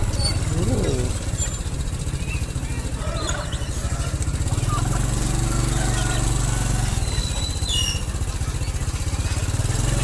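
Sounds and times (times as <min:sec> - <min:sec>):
birds chirping: 0:00.0 - 0:09.6
small engine running: 0:00.0 - 0:10.0.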